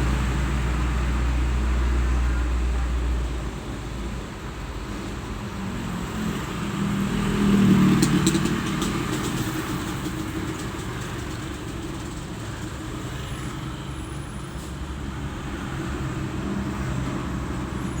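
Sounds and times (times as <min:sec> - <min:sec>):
traffic engines running: 0:00.0 - 0:18.0.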